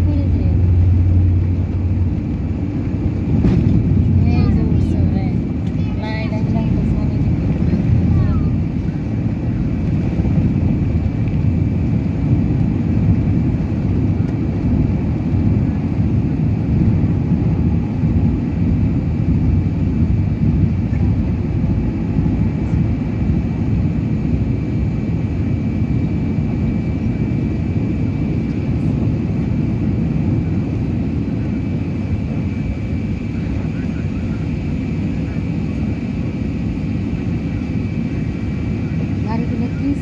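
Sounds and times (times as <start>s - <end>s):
jet engine deep rumble: 0.0s - 40.0s.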